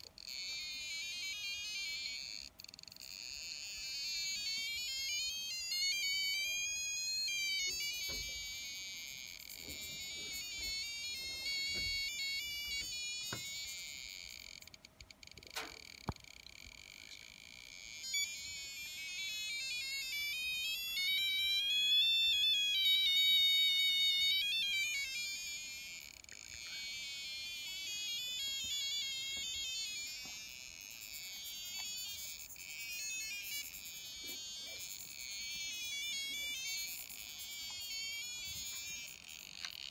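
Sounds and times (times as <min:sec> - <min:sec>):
warbling electronic tones: 0:00.0 - 0:39.9.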